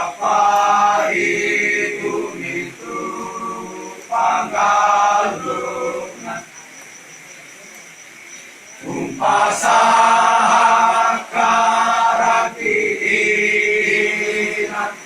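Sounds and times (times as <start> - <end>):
choir chanting long notes: 0.0 - 6.5, 8.8 - 15.0.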